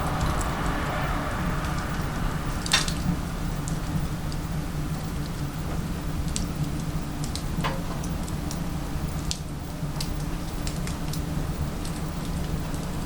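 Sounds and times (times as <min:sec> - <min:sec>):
steady low hum: 0:00.0 - 0:13.0
wood fire crackling and popping: 0:00.0 - 0:13.0.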